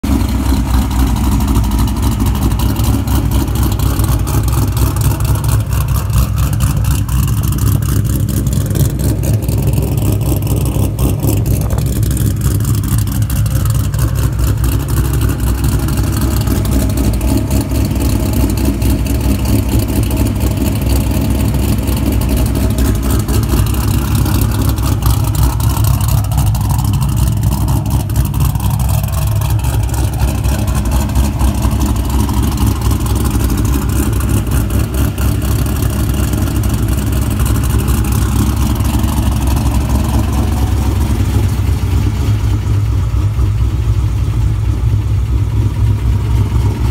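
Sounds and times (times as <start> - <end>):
car engine idling with lumpy cam: 0.0 - 46.9.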